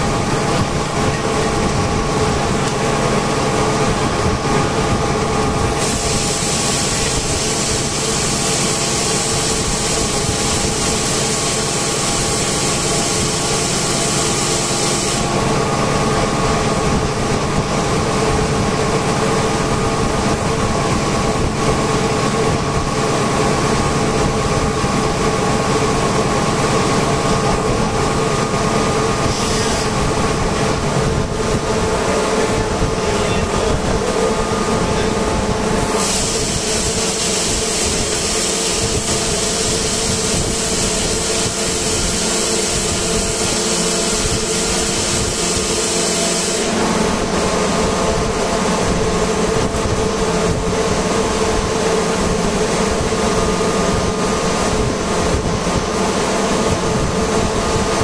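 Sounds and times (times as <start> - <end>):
air compressor humming: 0.0 - 58.0.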